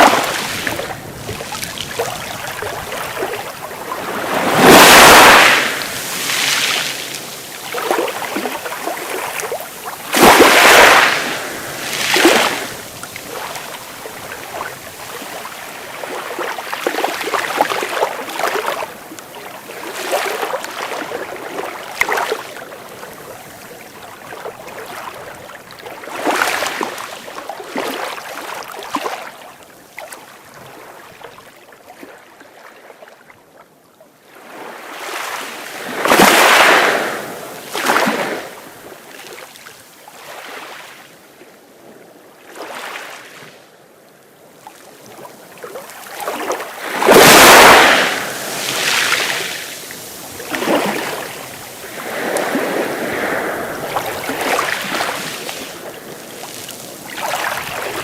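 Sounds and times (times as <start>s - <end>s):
sea waves breaking on shore: 0.0s - 33.1s, 34.3s - 43.7s, 44.5s - 58.0s.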